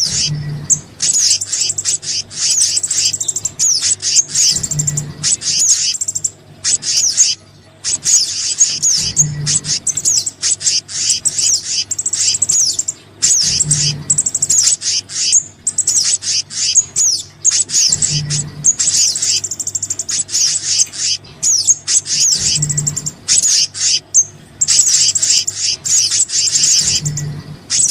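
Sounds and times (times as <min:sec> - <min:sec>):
low steady hum: 0:00.0 - 0:27.9
songbird chirps and whistles: 0:00.0 - 0:27.9.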